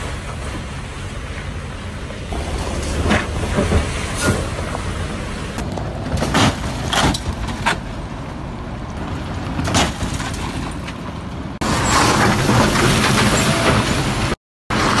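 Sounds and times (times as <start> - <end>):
vehicle engines: 0.0 - 15.0.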